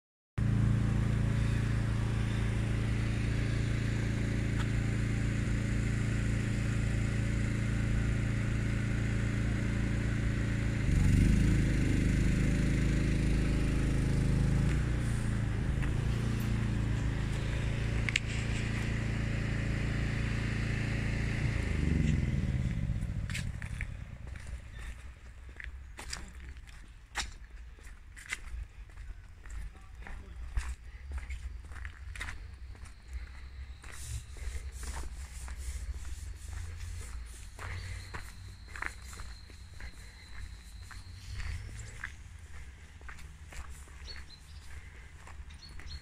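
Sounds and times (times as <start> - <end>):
engine running and revving: 0.4 - 26.2, 31.6 - 46.0.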